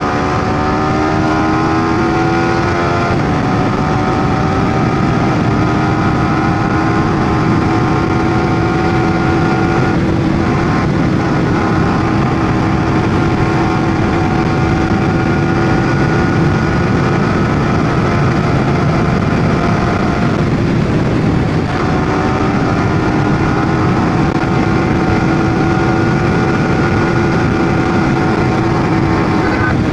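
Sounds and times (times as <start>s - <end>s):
motorcycle engine running: 0.0s - 29.9s
steady rushing noise: 0.0s - 29.9s.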